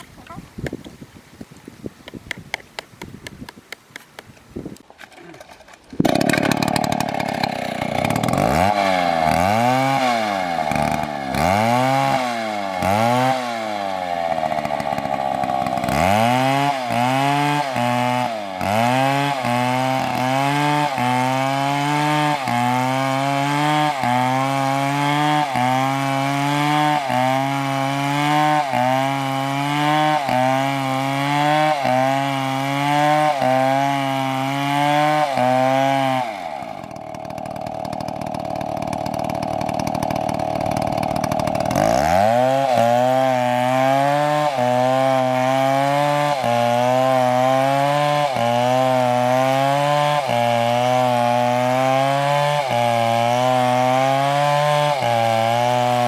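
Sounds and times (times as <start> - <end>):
chainsaw cutting wood: 2.0 - 56.0.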